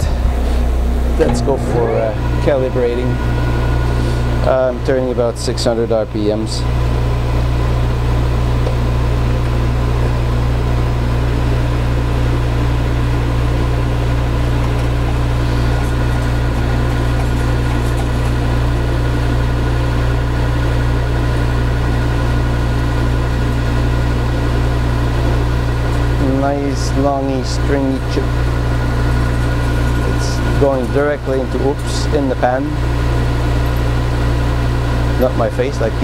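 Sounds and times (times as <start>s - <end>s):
metal lathe running: 0.0s - 36.0s.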